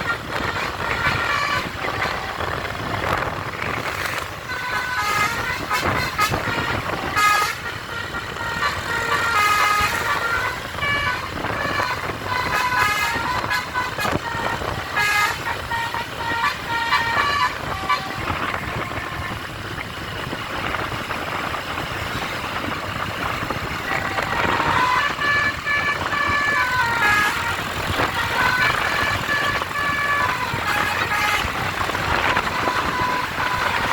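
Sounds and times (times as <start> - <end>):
bus horn playing a tune: 0.0 - 33.9.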